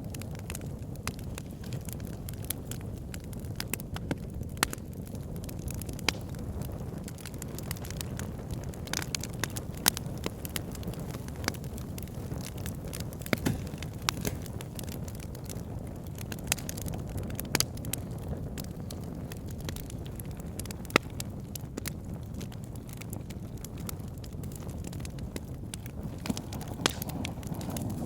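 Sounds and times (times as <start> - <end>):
burning wood crackling: 0.0 - 28.0
low rush of flames: 0.0 - 28.0.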